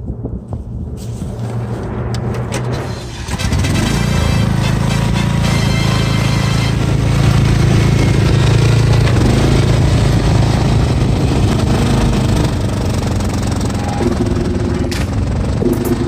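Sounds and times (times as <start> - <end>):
lawn tractor engine drone: 1.1 - 16.0.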